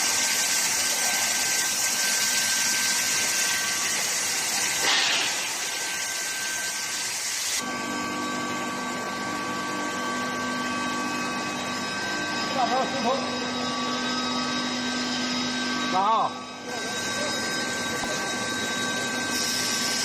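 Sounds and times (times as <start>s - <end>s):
machine hum and whine: 0.0s - 20.0s.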